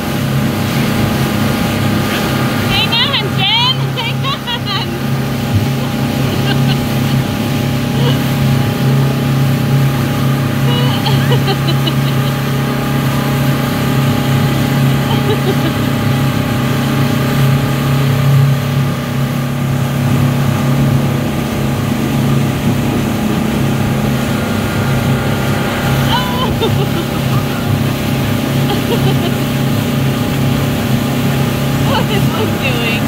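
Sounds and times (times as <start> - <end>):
boat wake rushing: 0.0 - 33.0
outboard motor running: 0.0 - 33.0.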